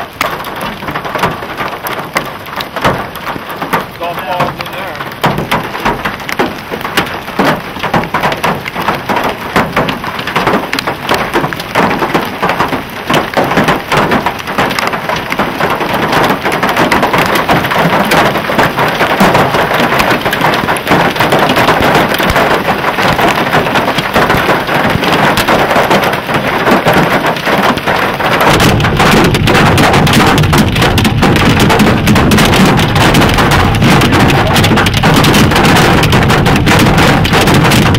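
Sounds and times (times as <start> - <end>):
hailstones clattering: 0.0 - 37.9
rain hissing: 0.0 - 37.9.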